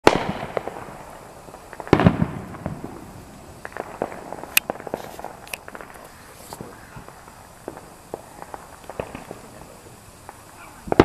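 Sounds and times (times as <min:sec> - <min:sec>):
fireworks bangs: 0:00.0 - 0:11.0
fireworks popping: 0:00.0 - 0:11.0.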